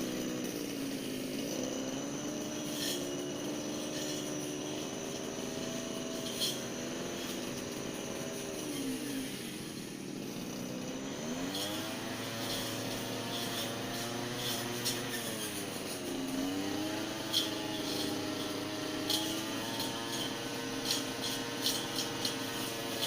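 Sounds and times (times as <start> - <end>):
brush cutter engine running: 0.0 - 23.0.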